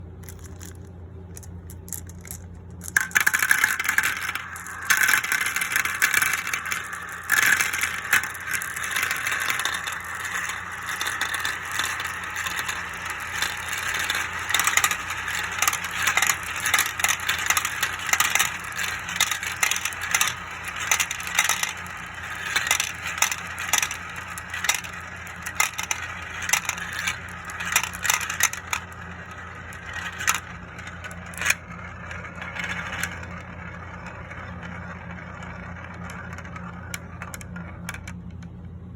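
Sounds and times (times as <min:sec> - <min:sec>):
steady low hum: 0:00.0 - 0:38.9
marbles rolling and clattering: 0:00.2 - 0:38.5.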